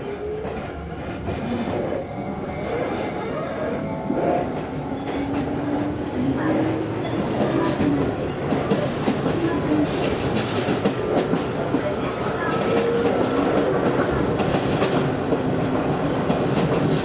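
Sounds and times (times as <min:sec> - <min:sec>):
train rolling noise: 0:00.0 - 0:17.0.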